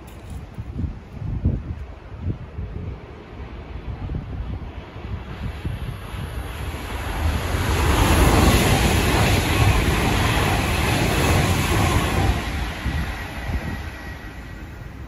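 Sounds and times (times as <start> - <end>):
train passing at speed: 0.0 - 15.0
wind buffeting the microphone: 0.0 - 15.0.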